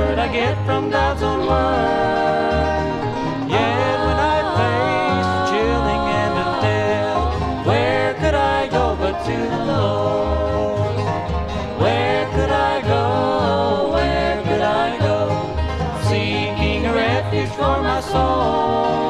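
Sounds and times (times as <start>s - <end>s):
banjo picking: 0.0s - 19.0s
guitar picking: 0.0s - 19.0s
sliding lead line: 0.0s - 19.0s.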